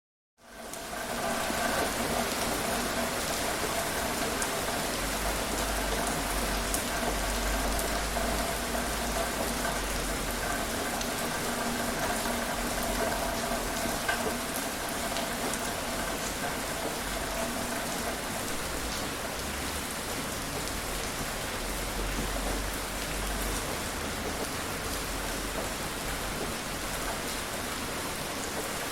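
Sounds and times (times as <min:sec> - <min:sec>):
rain hissing: 0:00.5 - 0:28.8
raindrop ticks: 0:00.6 - 0:19.6, 0:20.5 - 0:28.8.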